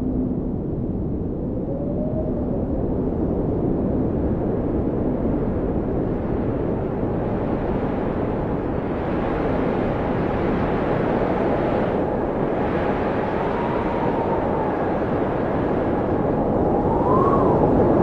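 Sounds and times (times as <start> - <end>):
blizzard wind rushing: 0.0 - 18.0
whistling wind howl: 0.0 - 18.0.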